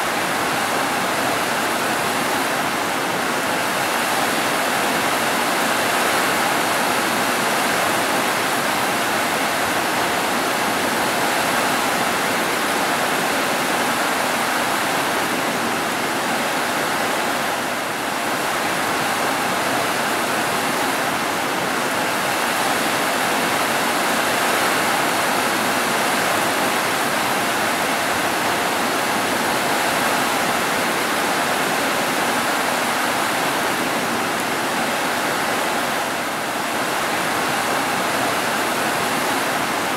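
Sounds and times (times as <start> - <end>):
heavy rain on roofs: 0.0 - 39.9.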